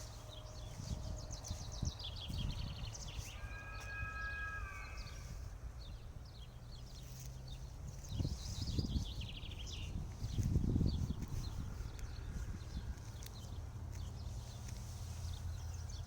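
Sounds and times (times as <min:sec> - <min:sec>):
small birds chirping and trilling: 0:00.0 - 0:16.0.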